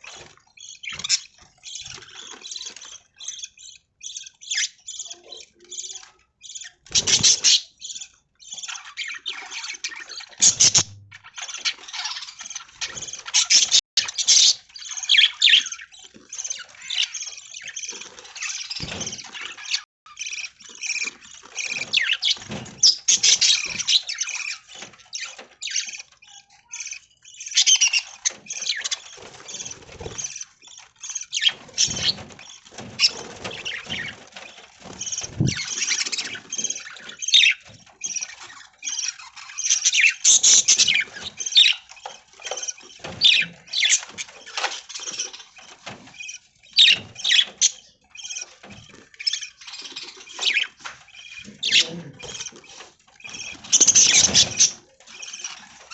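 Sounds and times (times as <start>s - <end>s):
budgerigars chirping: 0.6s - 55.9s.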